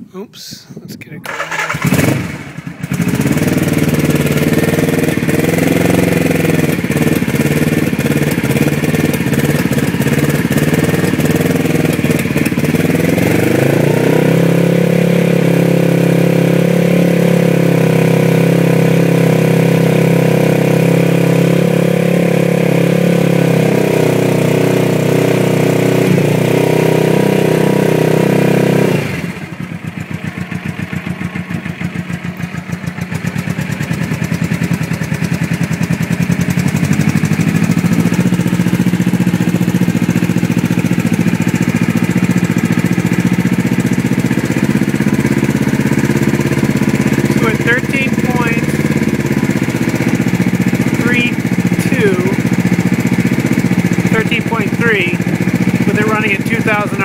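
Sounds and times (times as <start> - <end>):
motorcycle engine idling and revving: 1.2 - 57.0.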